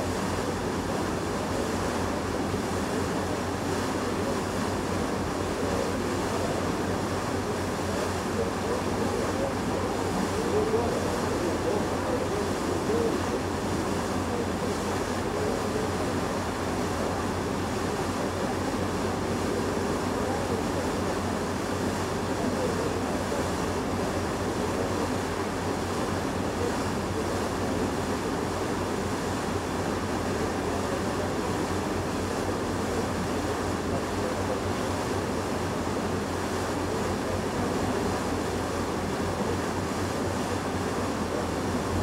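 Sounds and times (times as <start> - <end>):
wind and water rushing: 0.0 - 42.0.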